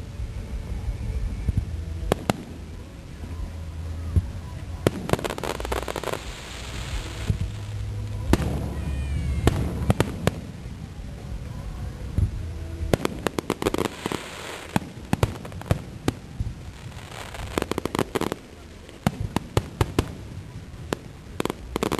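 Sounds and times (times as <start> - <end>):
fireworks crackling: 0.0 - 21.9
low rumble: 0.0 - 21.9
fireworks bangs: 0.6 - 2.9, 4.1 - 11.0, 12.0 - 21.9.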